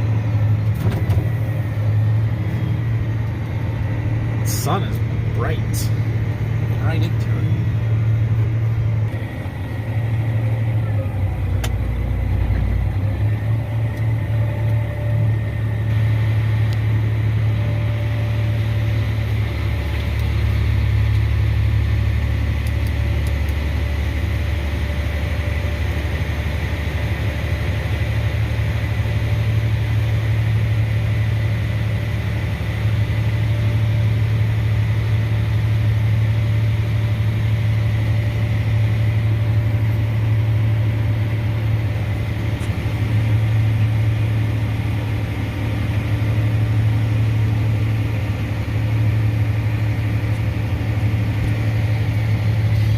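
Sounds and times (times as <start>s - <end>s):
diesel engine droning: 0.0s - 52.9s
faint steady whine: 0.0s - 52.9s.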